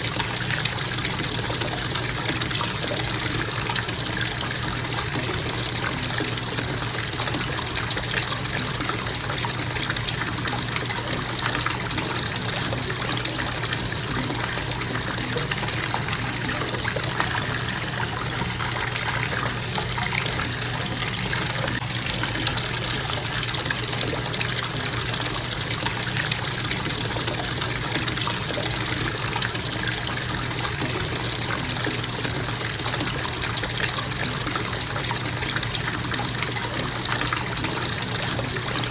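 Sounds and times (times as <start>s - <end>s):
faucet water pouring into tub: 0.0s - 38.9s.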